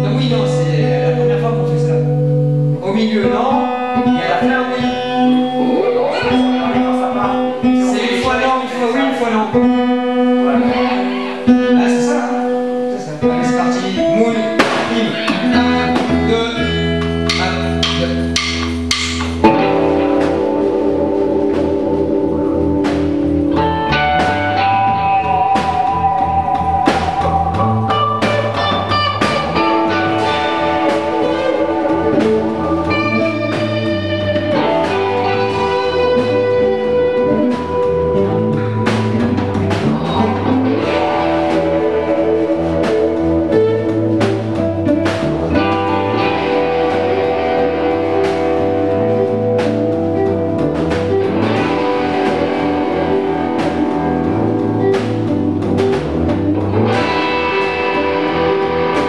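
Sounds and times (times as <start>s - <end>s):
bass guitar line: 0.0s - 59.0s
electric guitars bending lead notes: 0.0s - 59.0s
steady drum-kit beat: 0.0s - 59.0s.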